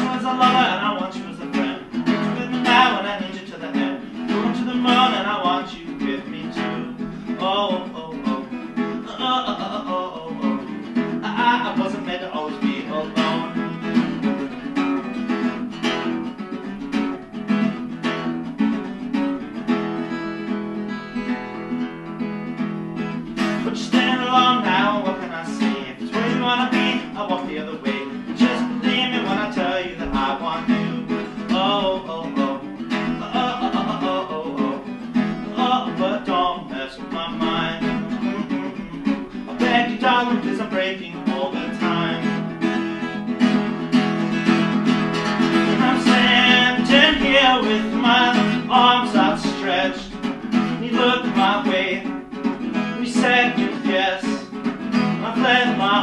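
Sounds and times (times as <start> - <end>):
man singing: 0.0 - 14.6, 23.2 - 43.4, 44.4 - 56.0
acoustic guitar strumming: 0.0 - 56.0.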